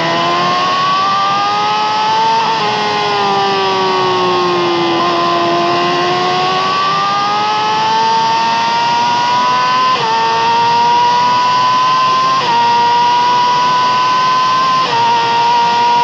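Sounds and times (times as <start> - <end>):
motorcycle engine at full throttle: 0.0 - 16.0.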